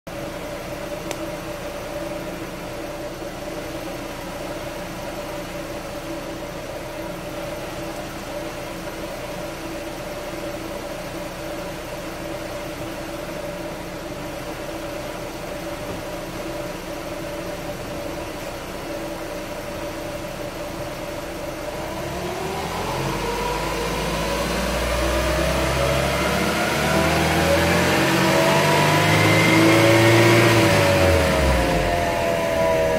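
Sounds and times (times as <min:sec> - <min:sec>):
car engine running and accelerating: 0:00.1 - 0:32.9.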